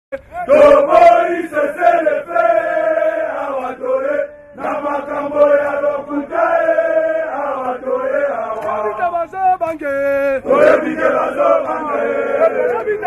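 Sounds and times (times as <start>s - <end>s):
men chanting together: 0.4s - 9.2s, 10.4s - 13.0s.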